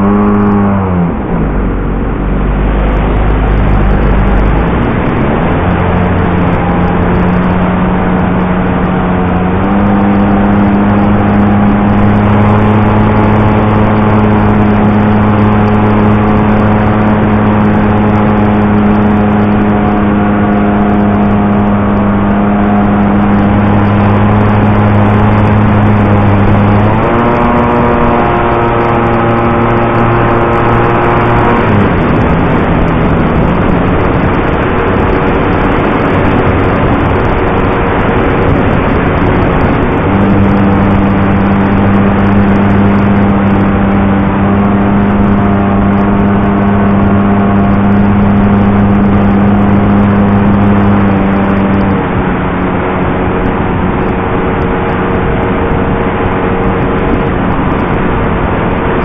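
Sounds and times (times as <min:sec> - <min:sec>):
model plane engine running: 0:05.8 - 0:59.0.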